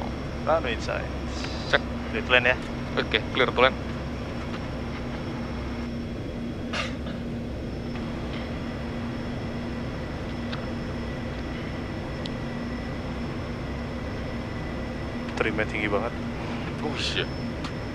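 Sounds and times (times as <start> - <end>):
faint high whine: 0.0 - 17.9
turboprop cockpit drone: 0.0 - 17.9.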